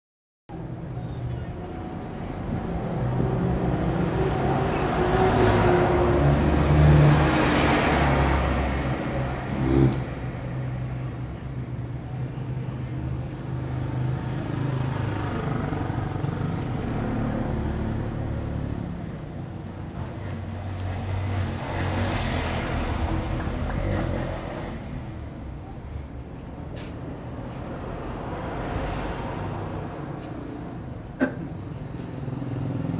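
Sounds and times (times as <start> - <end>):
vehicle engines running: 0.5 - 32.9
vehicles passing: 0.5 - 32.9.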